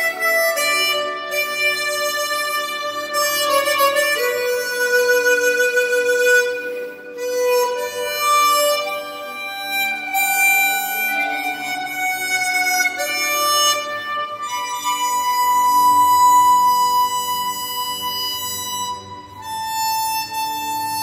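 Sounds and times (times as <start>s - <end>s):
backing music recording: 0.0s - 21.0s
harmonica playing slow melody: 0.0s - 21.0s.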